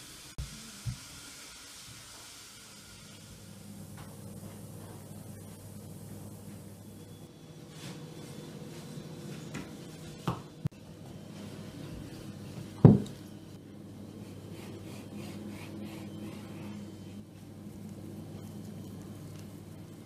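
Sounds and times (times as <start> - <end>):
steady low hum: 3.3 - 20.0.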